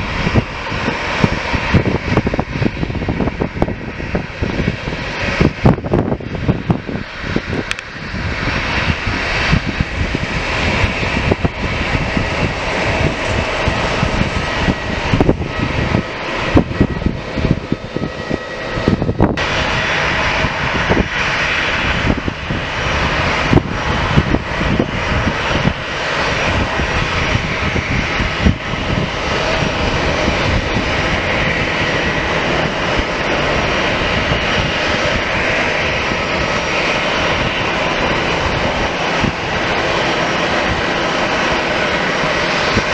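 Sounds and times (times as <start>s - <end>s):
airliner engines roaring: 0.0s - 42.9s
faint steady engine whine: 0.0s - 42.9s.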